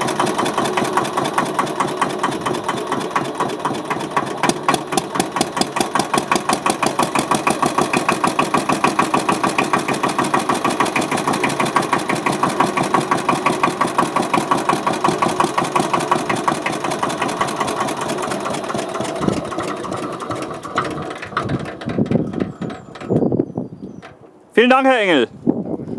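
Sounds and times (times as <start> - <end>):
diesel engine running steadily: 0.0 - 23.2.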